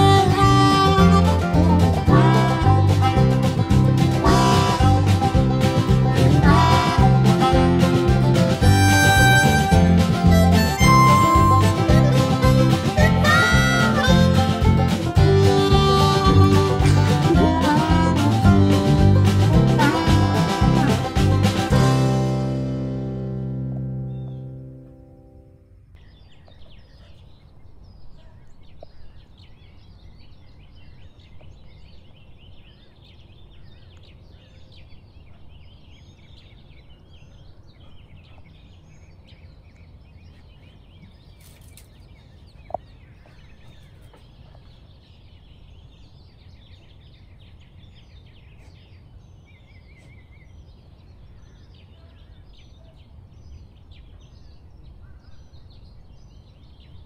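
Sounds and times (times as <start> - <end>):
birds chirping and calling: 0.0 - 18.8, 24.0 - 25.3, 25.9 - 57.0.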